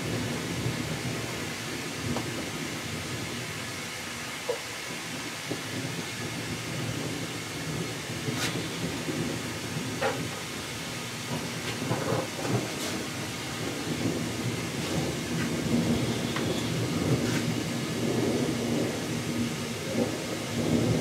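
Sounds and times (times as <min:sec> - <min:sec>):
rolling thunder rumble: 0:00.0 - 0:03.8, 0:04.9 - 0:21.0
steady rain: 0:00.0 - 0:21.0.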